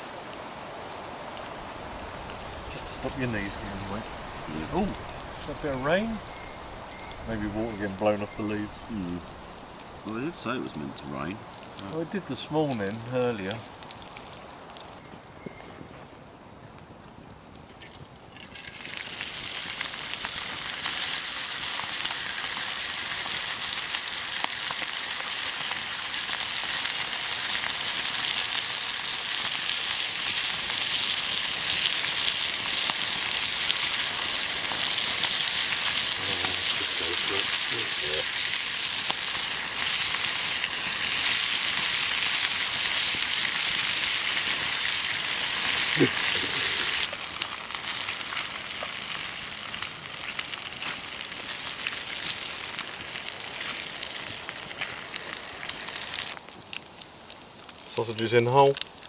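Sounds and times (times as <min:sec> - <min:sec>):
meat sizzling in a frying pan: 0:00.0 - 0:15.0, 0:18.3 - 0:59.0.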